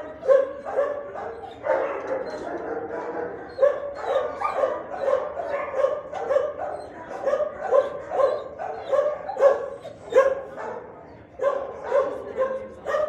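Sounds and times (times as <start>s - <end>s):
dog barking: 0.0s - 13.0s.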